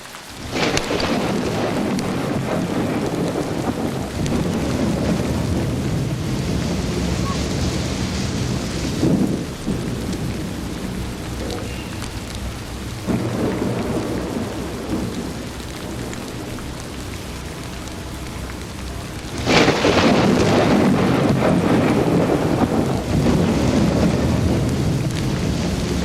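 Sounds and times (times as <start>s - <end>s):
steady rain: 0.0s - 26.0s
thunder rumbling: 0.0s - 26.0s
loud thunderclap: 0.4s - 26.0s.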